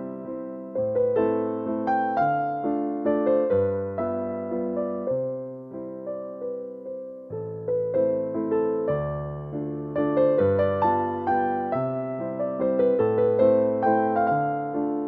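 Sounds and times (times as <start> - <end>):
soft electric piano music: 0.0 - 15.0.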